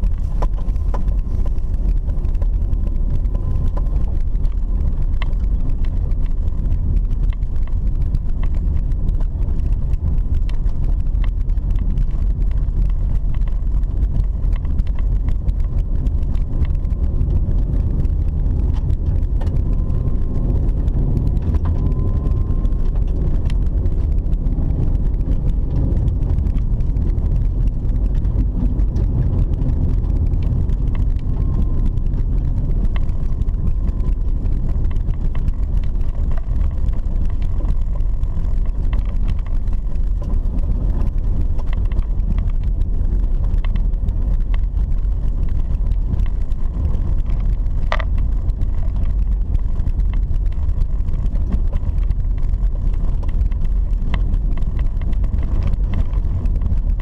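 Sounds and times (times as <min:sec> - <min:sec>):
car rumbling on dirt road: 0:00.0 - 0:57.0
small ticks and rattles: 0:00.0 - 0:57.0.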